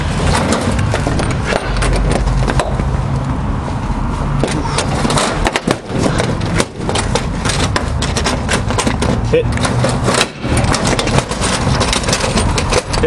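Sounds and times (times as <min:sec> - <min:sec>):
low engine hum: 0:00.0 - 0:12.4.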